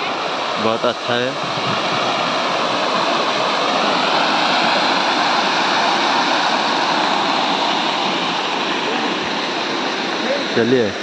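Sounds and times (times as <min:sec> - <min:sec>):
fountain splashing into pool: 0:00.0 - 0:11.0.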